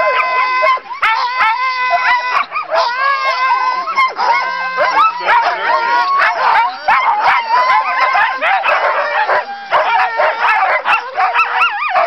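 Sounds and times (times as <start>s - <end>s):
many dogs barking and howling: 0.0s - 12.0s.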